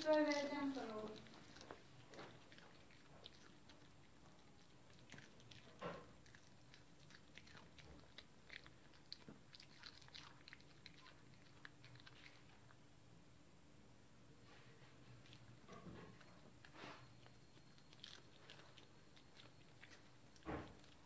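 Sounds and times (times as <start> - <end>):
dog crunching cabbage leaf: 0.0 - 12.8, 15.0 - 21.0.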